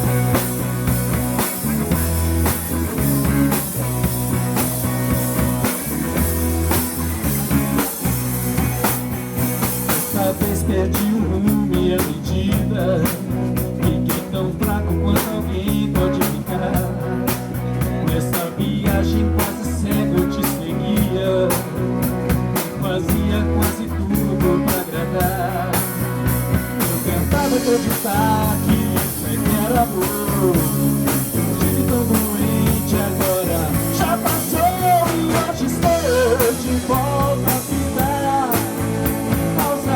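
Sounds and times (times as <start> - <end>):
lead guitar melody with bends: 0.0 - 39.9
rock band playing: 0.0 - 39.9.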